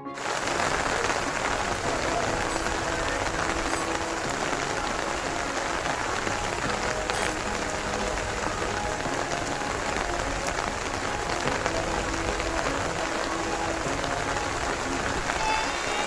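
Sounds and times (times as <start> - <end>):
heavy rain pouring: 0.0 - 16.0
faint voices: 0.1 - 16.0.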